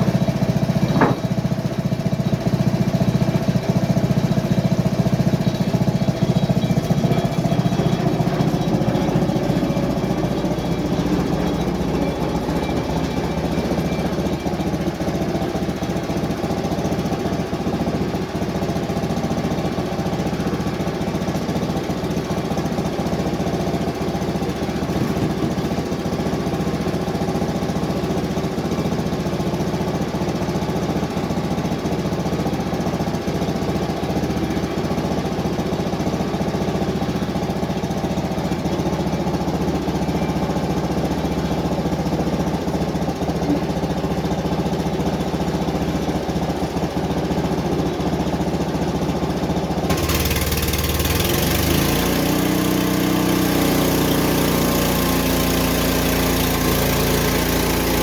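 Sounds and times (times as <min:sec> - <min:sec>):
small gasoline engine running: 0:00.0 - 0:58.0.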